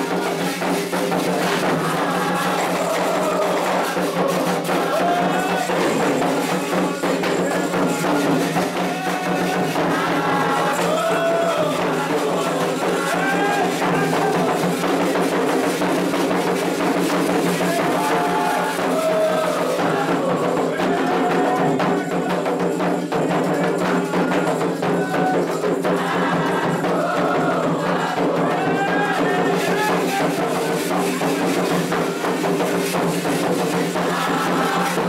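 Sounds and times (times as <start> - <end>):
hand drums rhythm: 0.0 - 35.0
voices singing: 0.0 - 35.0.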